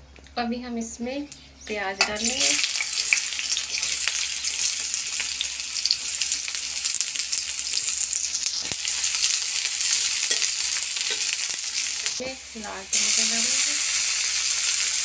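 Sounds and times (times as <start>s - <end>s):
onions sizzling in oil: 1.7s - 15.0s.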